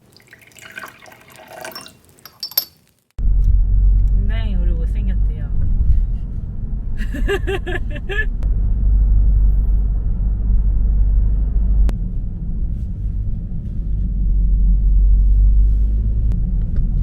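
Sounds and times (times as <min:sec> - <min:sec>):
car engine and road noise: 0:03.2 - 0:17.0.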